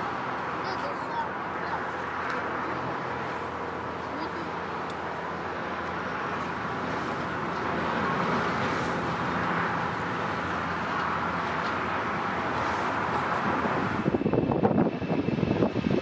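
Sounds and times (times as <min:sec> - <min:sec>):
distant jet engines rushing: 0:00.0 - 0:16.0.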